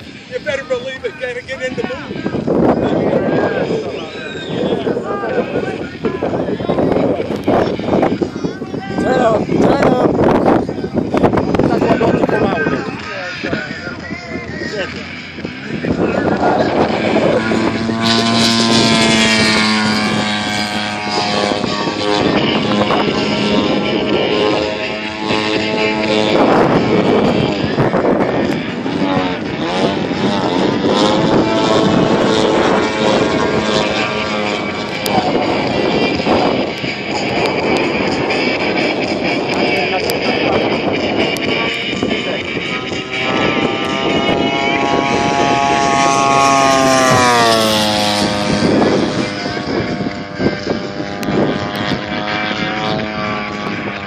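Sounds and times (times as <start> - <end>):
model airplane engine in flight: 0.0 - 54.0.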